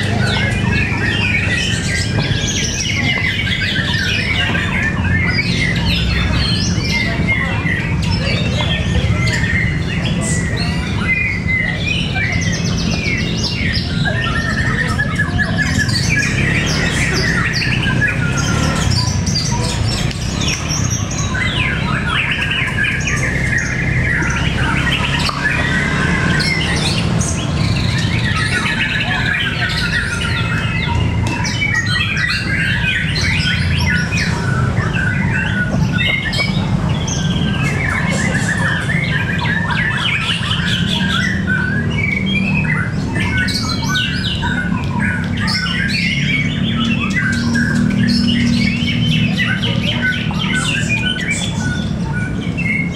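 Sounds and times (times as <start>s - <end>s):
many songbirds singing: 0.0s - 52.9s.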